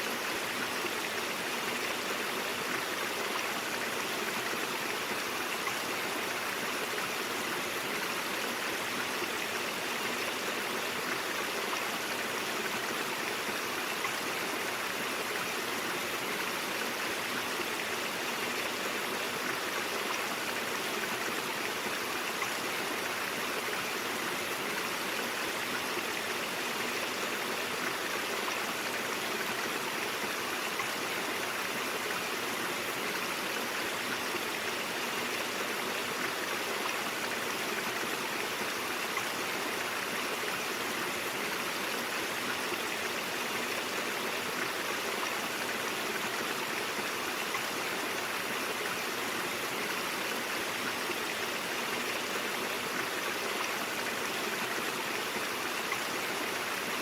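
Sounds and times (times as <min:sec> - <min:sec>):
brook running over rocks: 0:00.0 - 0:57.0.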